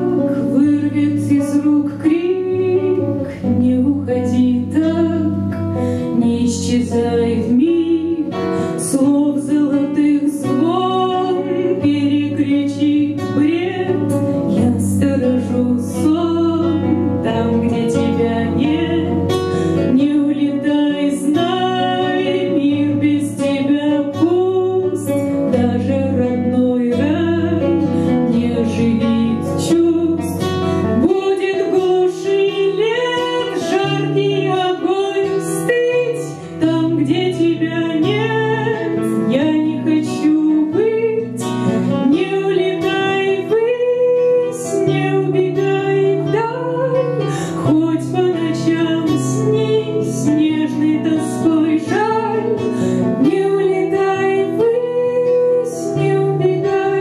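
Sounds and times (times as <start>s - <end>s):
acoustic guitar: 0.0s - 57.0s
woman singing: 0.0s - 57.0s.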